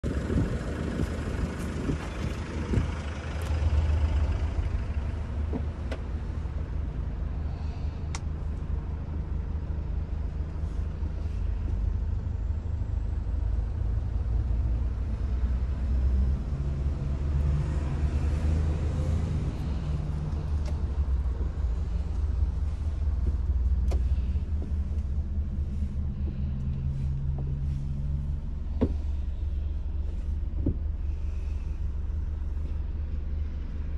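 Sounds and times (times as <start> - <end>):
low engine rumble: 0.0 - 33.9.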